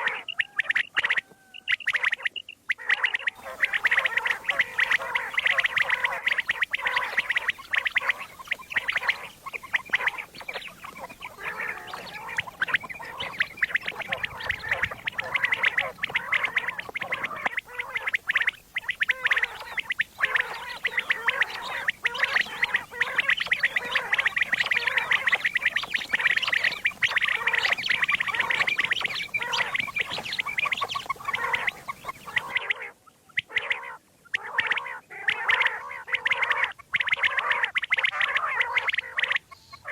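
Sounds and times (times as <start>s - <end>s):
quail calling: 0.0s - 39.9s.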